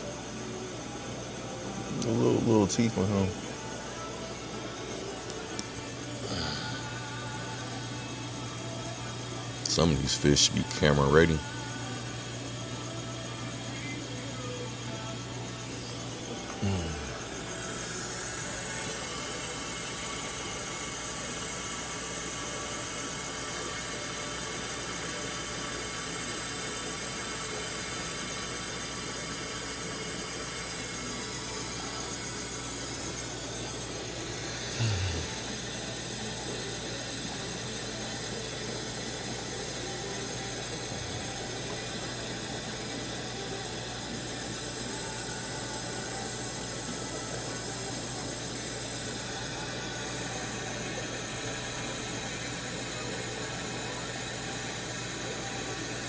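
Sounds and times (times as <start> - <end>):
aquarium filters humming: 0.0 - 56.0.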